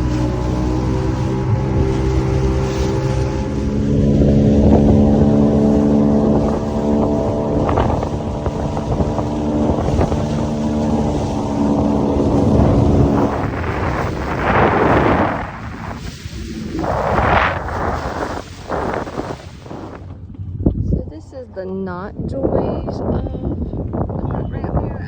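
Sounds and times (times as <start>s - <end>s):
outboard motor running: 0.0s - 25.0s
wind rushing on microphone: 0.0s - 25.0s.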